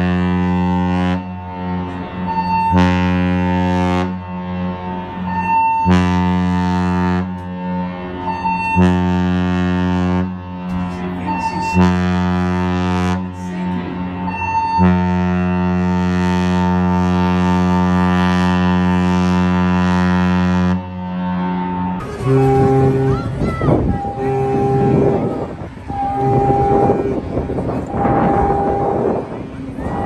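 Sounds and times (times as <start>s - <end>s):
deep ship horn blasts: 0.0s - 30.0s.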